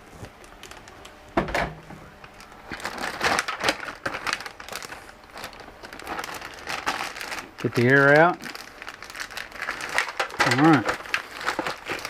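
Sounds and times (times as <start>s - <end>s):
plastic bag crinkling: 0.2s - 1.2s, 2.2s - 12.0s.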